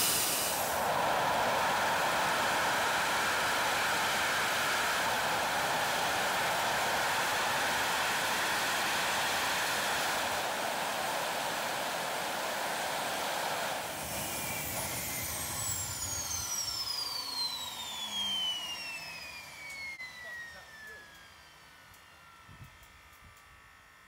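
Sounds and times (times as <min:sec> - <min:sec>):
jet engine roaring: 0:00.0 - 0:21.8
turbine whine spooling down: 0:00.0 - 0:24.0.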